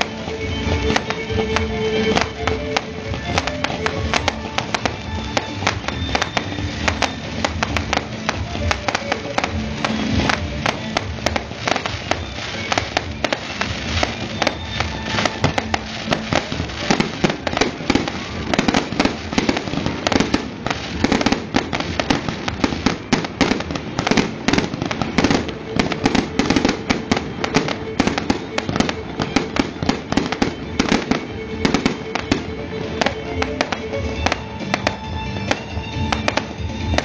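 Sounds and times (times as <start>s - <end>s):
fireworks bangs and crackles: 0.0s - 37.0s
music: 0.0s - 37.0s.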